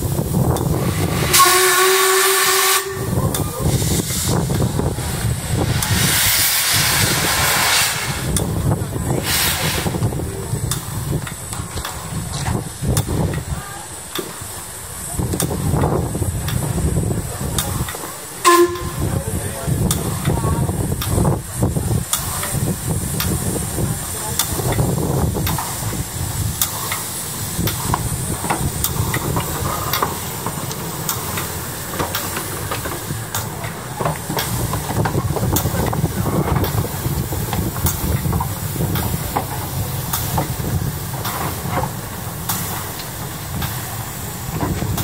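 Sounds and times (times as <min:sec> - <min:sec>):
steam train rumbling and hissing: 0:00.0 - 0:45.0
train wheels clicking: 0:00.0 - 0:45.0.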